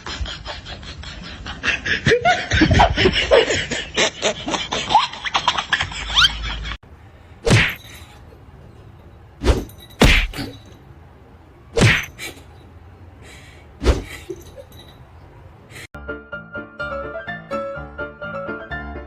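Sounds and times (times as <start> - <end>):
low background noise: 0.0 - 15.9.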